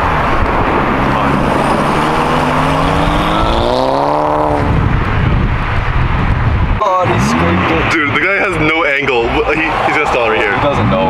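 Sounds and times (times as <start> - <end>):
car engine accelerating: 0.0 - 11.0
road noise: 0.0 - 11.0.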